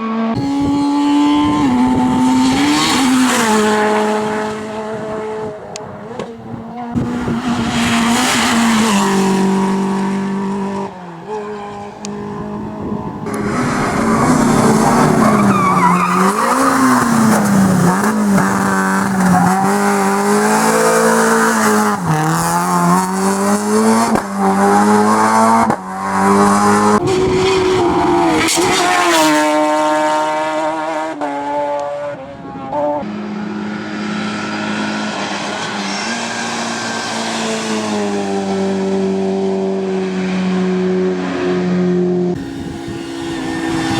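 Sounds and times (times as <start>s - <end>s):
race car engine revving hard: 0.0s - 43.9s.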